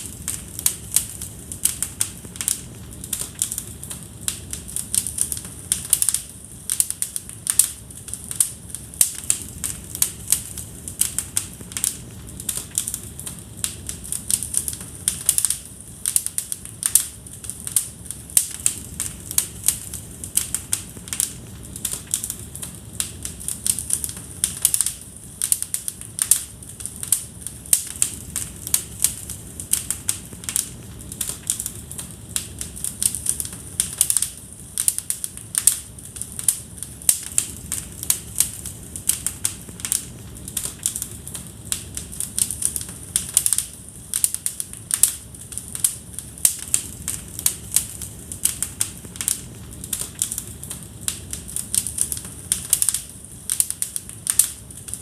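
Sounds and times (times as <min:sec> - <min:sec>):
flames rushing: 0:00.0 - 0:55.0
wood fire crackling and popping: 0:00.0 - 0:55.0.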